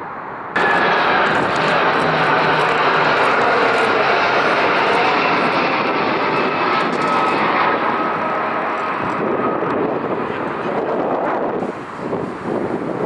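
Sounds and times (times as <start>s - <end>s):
jet airliner engines rushing: 0.0s - 13.0s.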